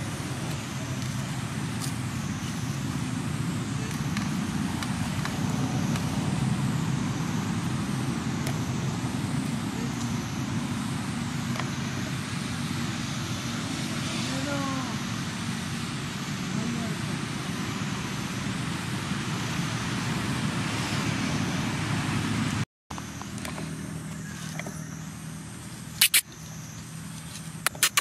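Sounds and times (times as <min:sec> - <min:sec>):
low outdoor rumble: 0:00.0 - 0:27.7.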